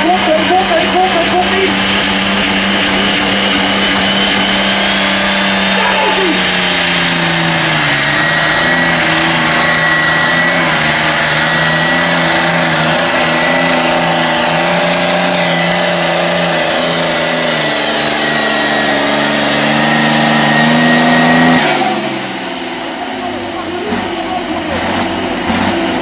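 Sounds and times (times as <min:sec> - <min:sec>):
high whine: 0:00.0 - 0:26.0
tractor engine under heavy load: 0:00.0 - 0:26.0.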